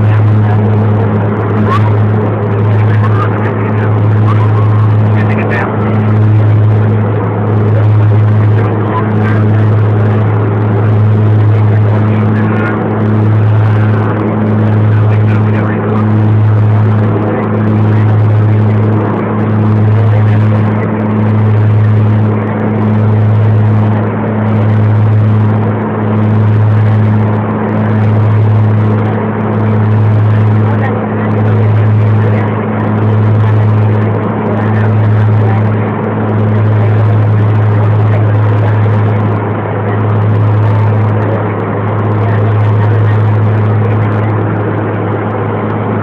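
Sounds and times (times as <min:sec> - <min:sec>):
propeller airliner cabin drone: 0:00.0 - 0:46.0.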